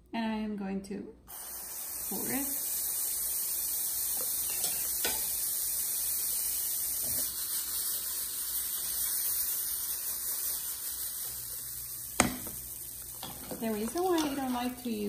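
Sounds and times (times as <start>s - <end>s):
batter sizzling in a pan: 1.3s - 15.0s.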